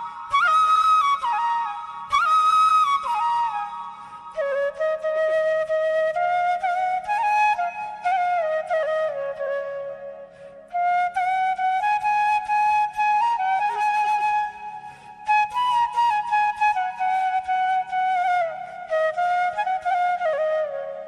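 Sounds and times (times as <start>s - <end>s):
flute-like melody: 0.0s - 21.0s.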